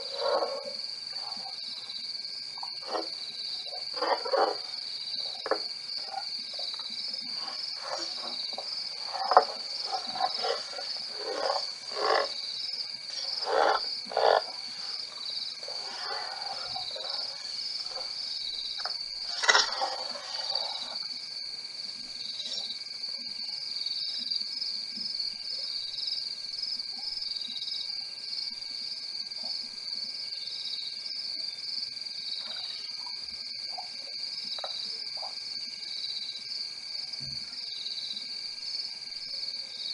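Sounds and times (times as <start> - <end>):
insect chorus trilling: 0.0 - 39.9.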